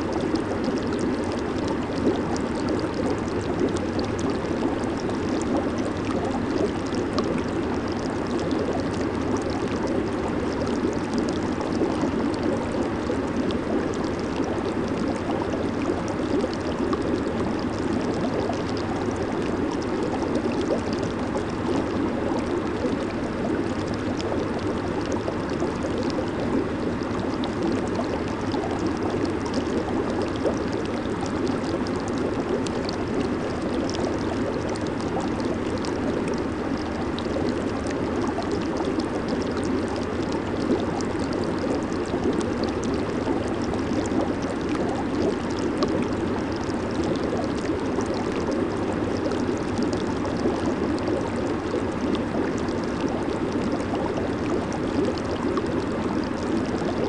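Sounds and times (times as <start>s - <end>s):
hot tub jets churning water: 0.0s - 57.0s.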